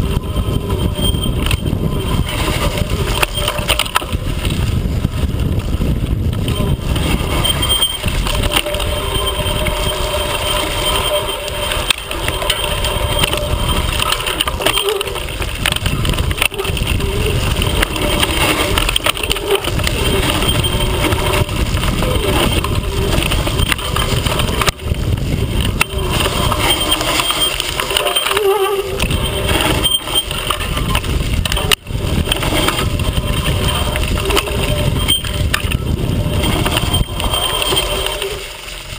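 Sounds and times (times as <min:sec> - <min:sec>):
ride rumble: 0:00.0 - 0:38.9
wind buffeting microphone: 0:00.0 - 0:38.9.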